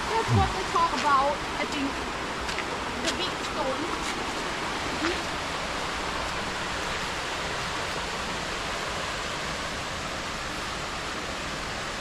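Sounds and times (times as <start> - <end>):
waterfall pouring and splashing: 0.0 - 12.0.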